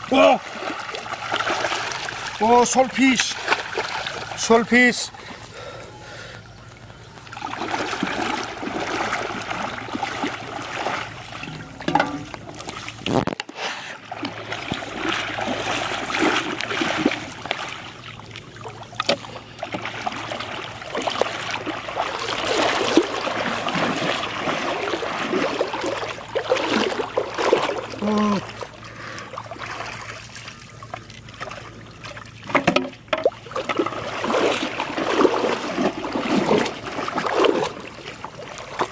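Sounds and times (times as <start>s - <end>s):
muddy water splashing: 0.0s - 38.9s.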